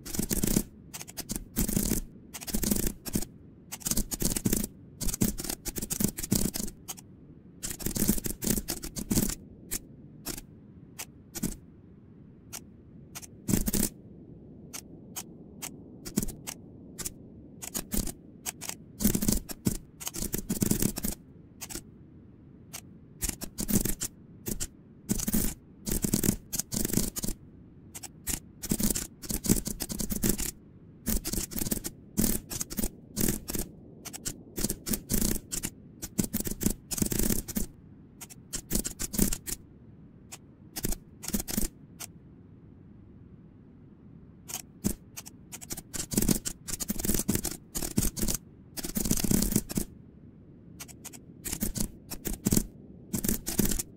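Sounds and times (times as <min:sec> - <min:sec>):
typing on computer keyboard: 0:00.0 - 0:11.6, 0:12.5 - 0:14.0, 0:14.7 - 0:21.8, 0:22.7 - 0:39.6, 0:40.3 - 0:42.1, 0:44.5 - 0:49.9, 0:50.8 - 0:53.9.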